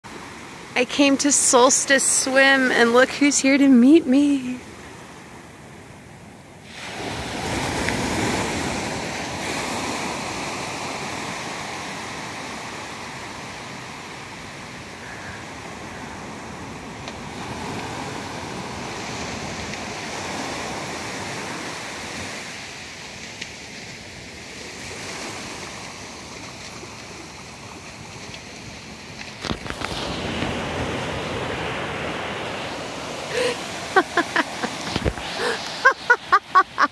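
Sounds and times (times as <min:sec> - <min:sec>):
waves breaking on beach: 0:00.0 - 0:36.9.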